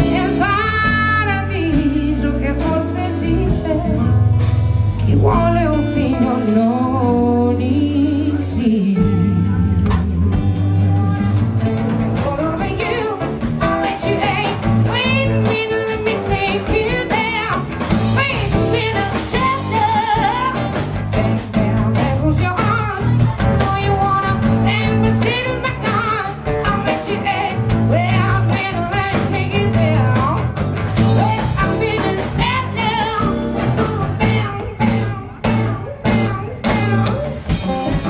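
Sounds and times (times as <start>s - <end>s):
live band playing pop-rock: 0.0s - 38.0s.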